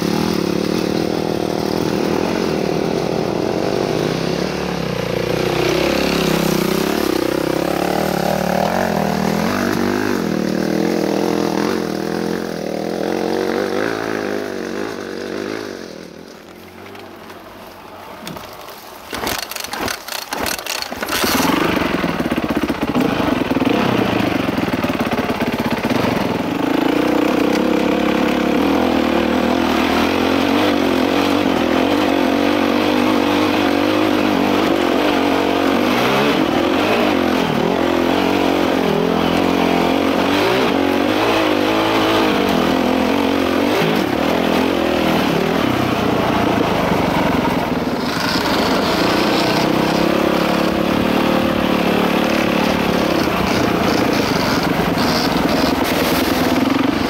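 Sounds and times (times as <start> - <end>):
dirt bike engine revving: 0.0 - 16.5, 19.1 - 57.0.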